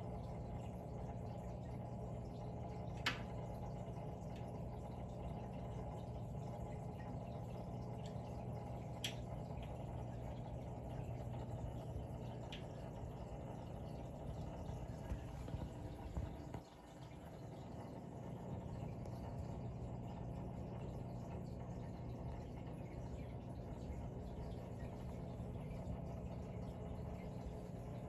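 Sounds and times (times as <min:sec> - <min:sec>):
aquarium pump humming: 0:00.0 - 0:28.0.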